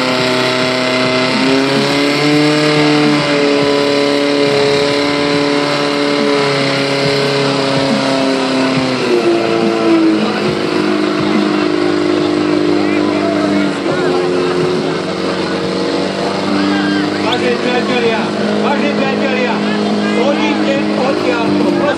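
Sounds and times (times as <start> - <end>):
pump engine running high revs: 0.0 - 21.9.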